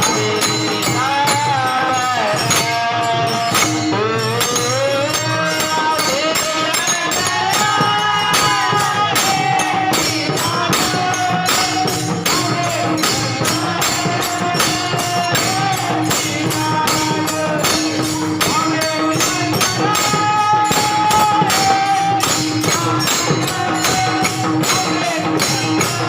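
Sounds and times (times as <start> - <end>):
jingling hand percussion: 0.0 - 26.0.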